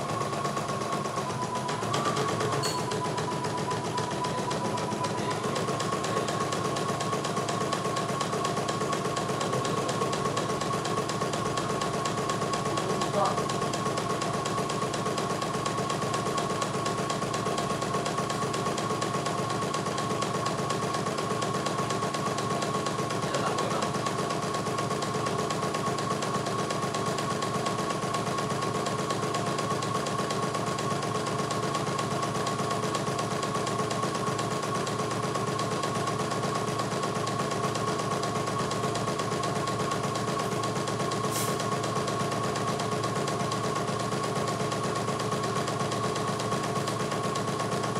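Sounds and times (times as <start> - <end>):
embroidery machine stitching: 0.0 - 47.9
steady motor hum: 0.0 - 47.9.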